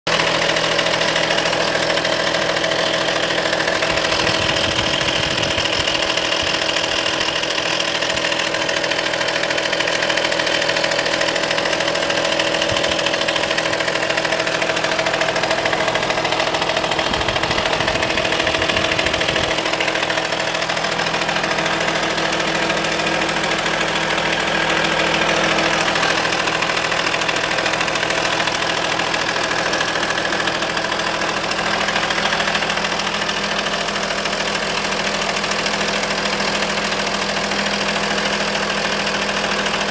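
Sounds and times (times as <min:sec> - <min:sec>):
low engine rumble: 0:00.1 - 0:35.9
diesel engine idling: 0:00.1 - 0:39.9.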